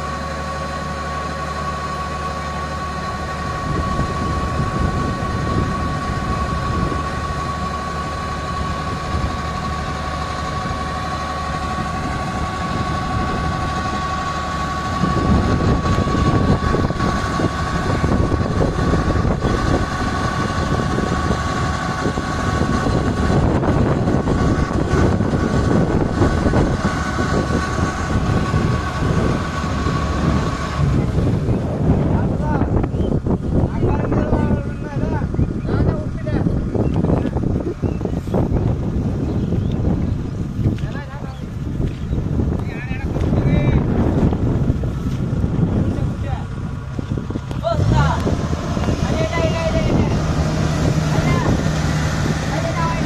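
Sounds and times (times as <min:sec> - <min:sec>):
auger high whine: 0:00.0 - 0:53.0
diesel engine running under load: 0:00.0 - 0:53.0.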